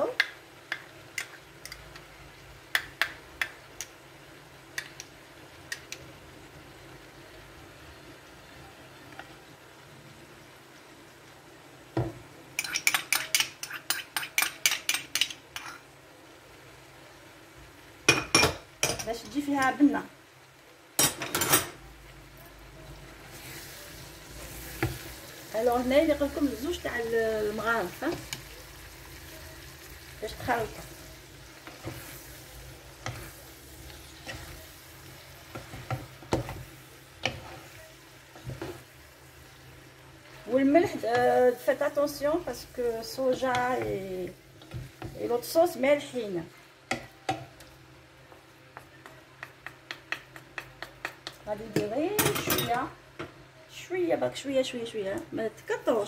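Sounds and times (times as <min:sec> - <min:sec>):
faint sizzle: 0:00.0 - 0:56.0.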